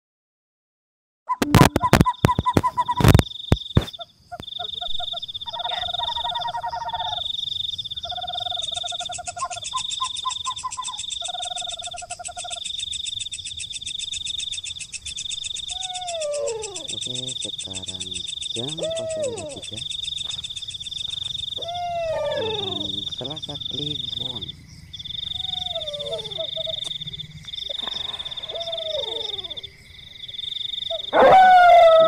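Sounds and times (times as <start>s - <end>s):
rapid trilled calls: 1.3s - 31.2s
insects chirring: 1.3s - 32.0s.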